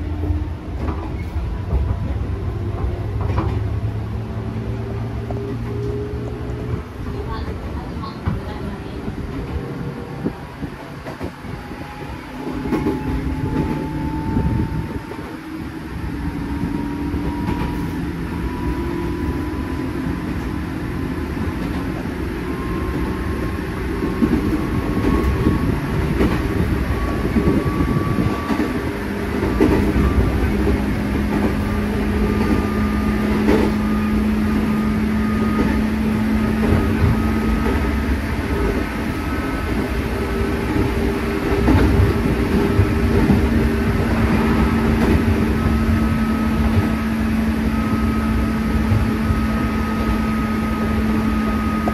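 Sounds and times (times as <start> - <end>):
train running rumble: 0.0 - 51.9.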